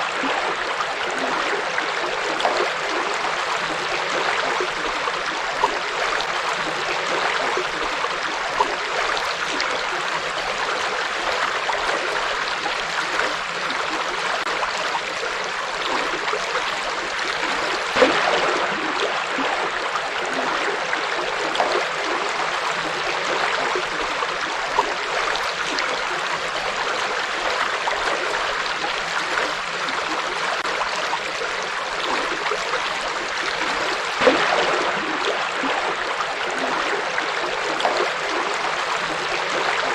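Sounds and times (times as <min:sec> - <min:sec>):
water splashes: 0:00.0 - 0:39.9.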